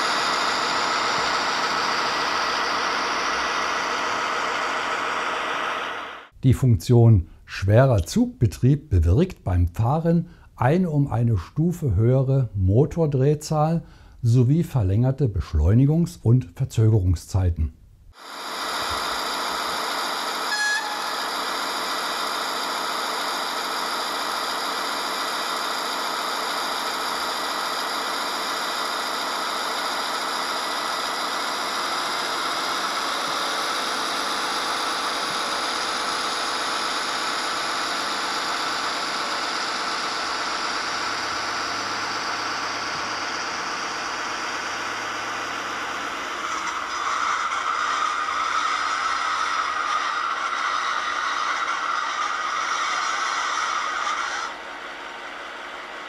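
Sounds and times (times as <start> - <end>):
model locomotive diesel engine sound: 0.0 - 17.0, 18.1 - 56.0.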